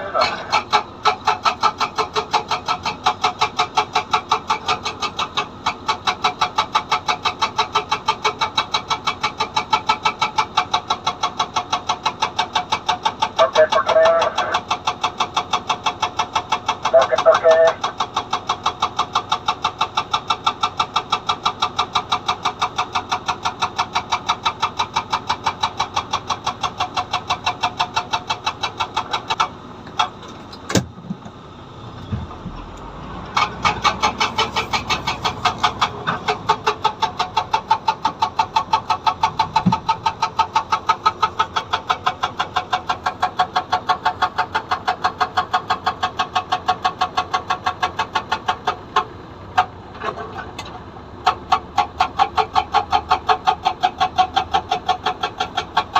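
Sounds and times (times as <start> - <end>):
excavator engine running: 0.0 - 55.9
hydraulic breaker hammering stone: 0.1 - 31.3, 33.3 - 49.7, 51.2 - 55.9.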